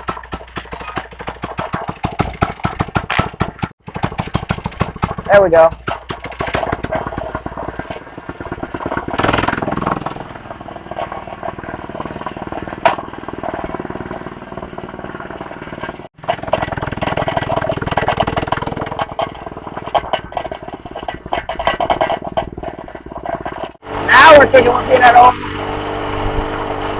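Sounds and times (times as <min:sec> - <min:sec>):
small engine running: 0:00.0 - 0:26.9.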